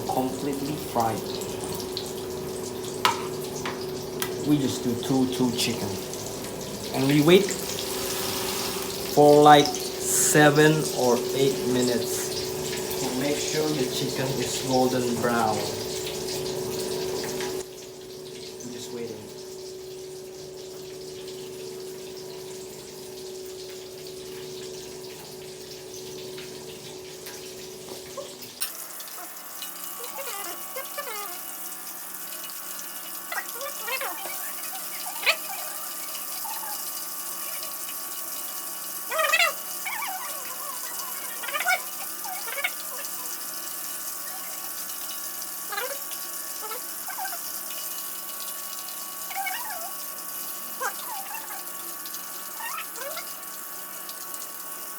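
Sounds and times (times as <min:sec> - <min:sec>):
chicken deep-frying in oil: 0:00.0 - 0:54.9.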